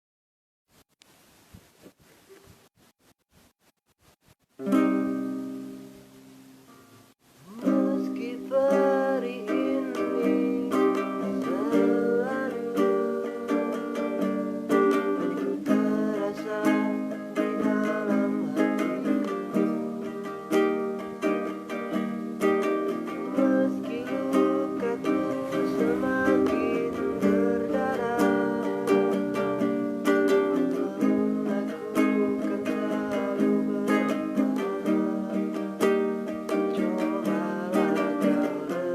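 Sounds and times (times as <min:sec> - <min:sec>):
plucked string instrument strumming: 0:04.6 - 0:38.9.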